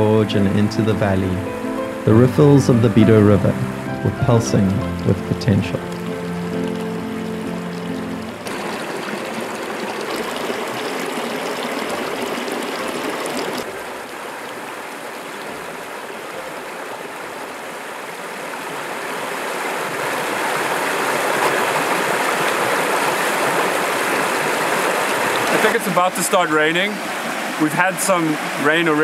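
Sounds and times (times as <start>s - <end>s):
river water running over rocks: 0.0s - 29.0s.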